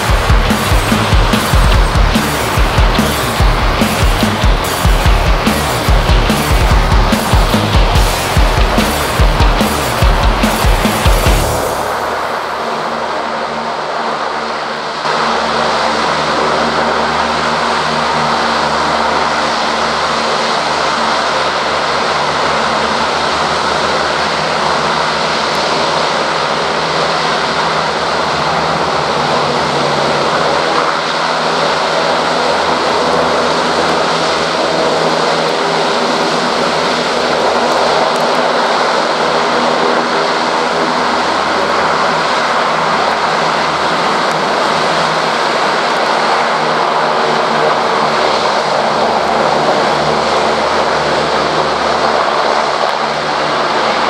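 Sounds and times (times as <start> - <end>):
hovercraft turbines roaring: 0.0 - 54.0.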